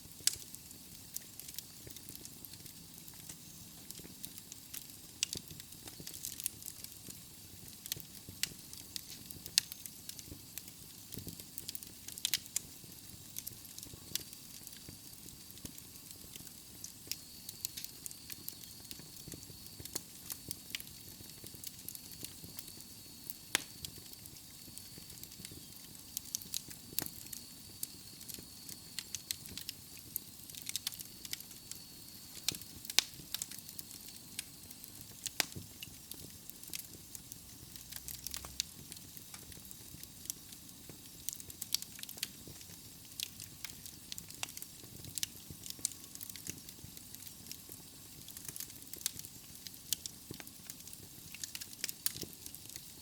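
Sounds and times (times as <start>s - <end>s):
fire hissing: 0.0s - 53.0s
wood fire crackling and popping: 0.0s - 53.0s.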